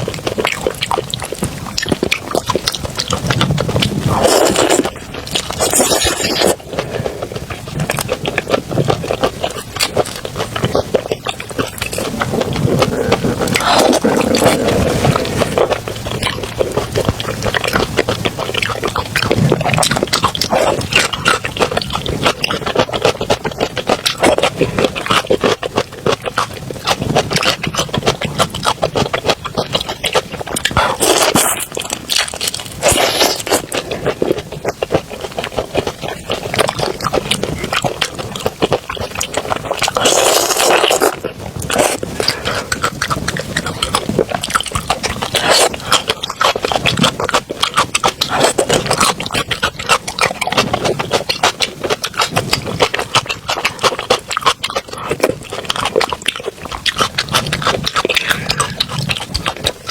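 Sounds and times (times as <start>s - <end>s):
chewing and mouth smacking: 0.0s - 59.9s.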